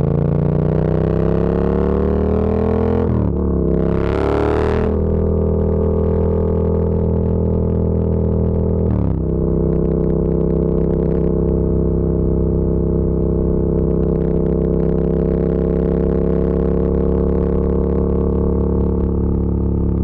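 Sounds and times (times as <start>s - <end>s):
motorcycle engine and exhaust droning: 0.0s - 20.0s.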